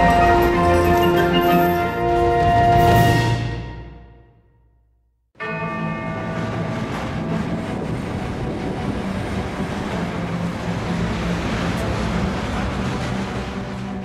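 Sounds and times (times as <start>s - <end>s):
passenger train passing: 0.0s - 4.1s, 5.4s - 14.0s.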